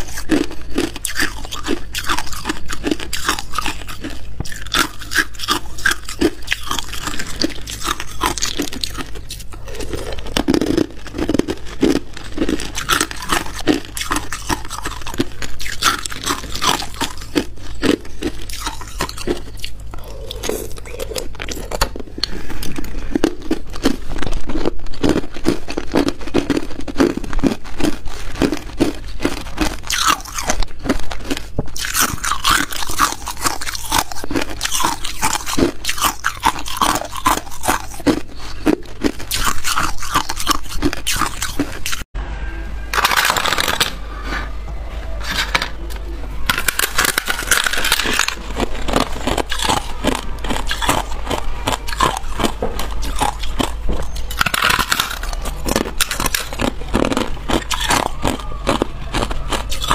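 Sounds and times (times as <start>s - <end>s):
ice crunching being chewed: 0.0s - 42.1s, 46.5s - 59.9s.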